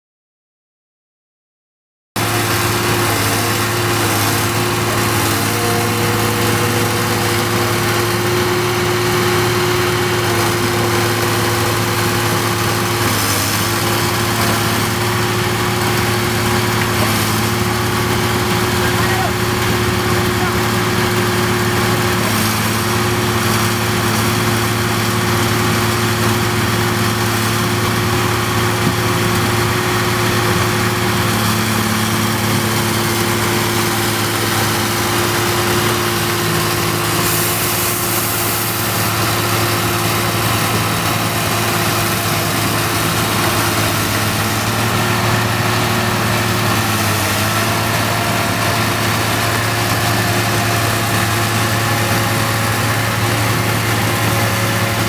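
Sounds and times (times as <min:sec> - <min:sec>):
combine harvester engine running: 0:02.2 - 0:55.0.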